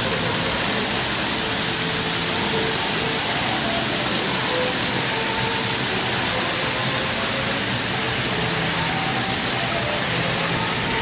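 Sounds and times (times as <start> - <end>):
waterfall splashing over rocks: 0.0 - 11.0.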